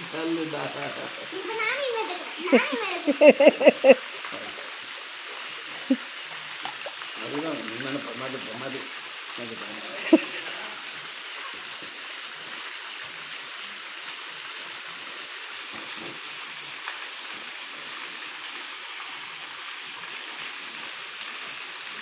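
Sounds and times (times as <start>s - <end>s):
waterfall splashing into pool: 0.0s - 22.0s.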